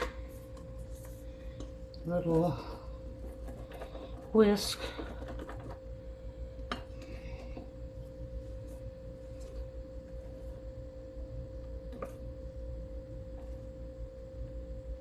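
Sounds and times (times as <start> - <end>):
steady mid-pitched hum: 0.0 - 15.0.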